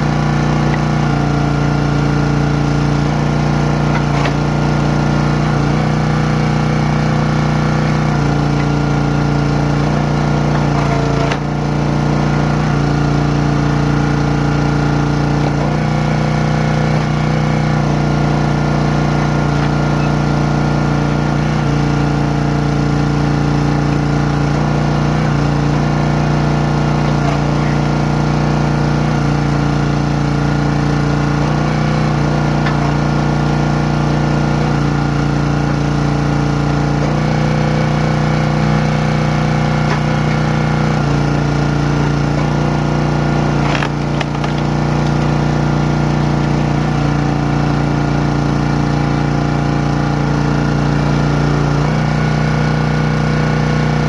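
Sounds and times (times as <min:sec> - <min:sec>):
log splitter engine running: 0:00.0 - 0:54.0.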